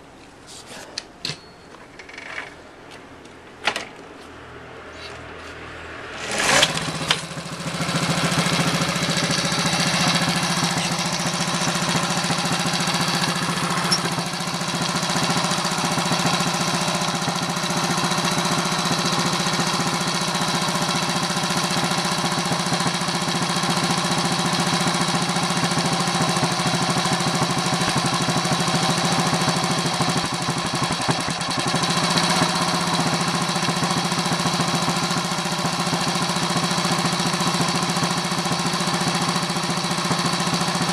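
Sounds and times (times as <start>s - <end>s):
small engine running: 6.1s - 40.9s.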